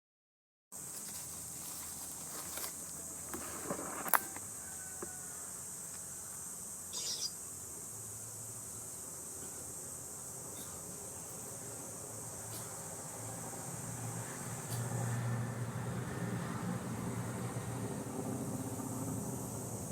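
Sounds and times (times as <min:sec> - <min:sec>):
insects droning: 0:00.8 - 0:19.9.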